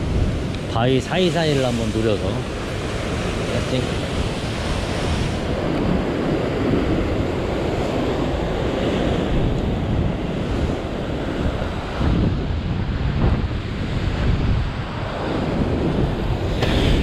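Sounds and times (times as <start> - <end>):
surf breaking over rocks: 0.0 - 17.0
wind buffeting microphone: 0.0 - 17.0.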